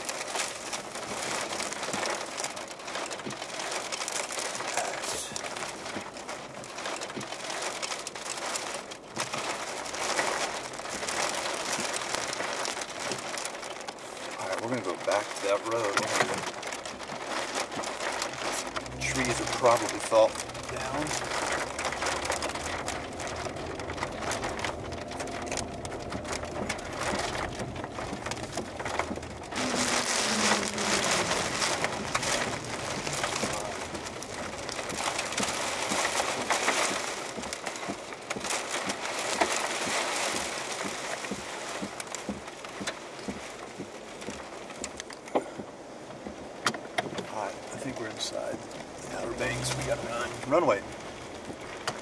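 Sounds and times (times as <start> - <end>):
heavy rain: 0.0 - 52.0
raindrops ticking on a vehicle: 0.0 - 52.0.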